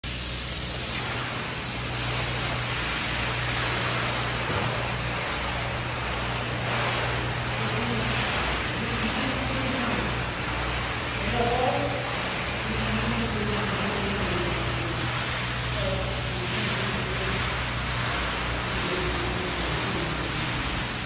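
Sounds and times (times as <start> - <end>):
constant low hum: 0.0 - 21.0
spray foam gun hissing: 0.0 - 21.0.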